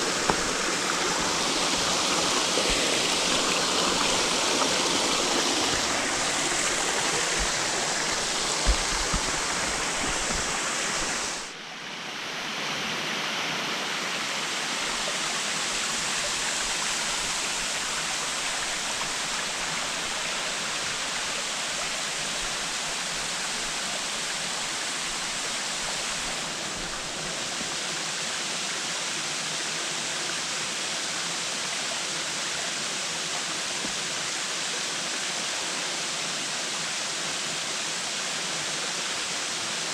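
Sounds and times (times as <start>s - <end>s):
waterfall rushing: 0.0s - 11.6s, 12.5s - 39.9s.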